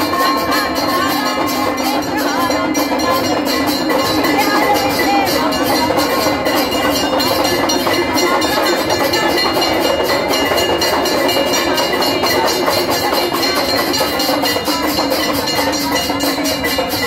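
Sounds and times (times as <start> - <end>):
bells and drums clanging: 0.0 - 17.0.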